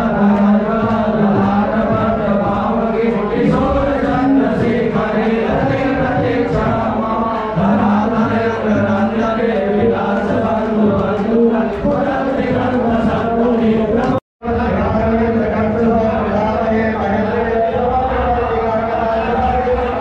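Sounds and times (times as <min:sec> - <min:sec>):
men chanting through microphones: 0:00.0 - 0:20.0.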